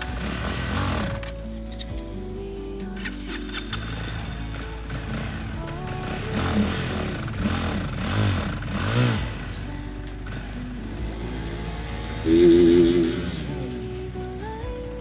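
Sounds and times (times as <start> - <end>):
motorcycle engine revving: 0.0 - 2.0, 3.0 - 15.0
background music: 0.0 - 15.0.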